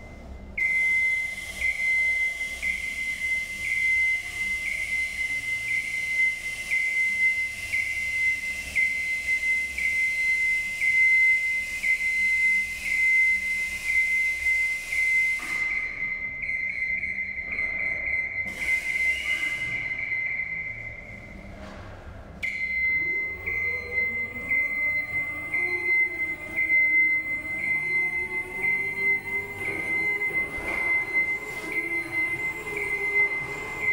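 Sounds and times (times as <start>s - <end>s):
lift descent alarm tone: 0.0s - 33.9s.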